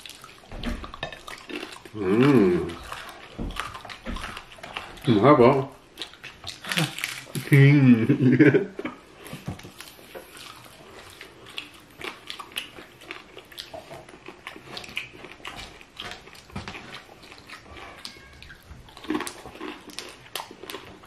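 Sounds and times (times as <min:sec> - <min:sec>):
chewing and mouth noises: 0:00.0 - 0:07.6, 0:08.8 - 0:21.0.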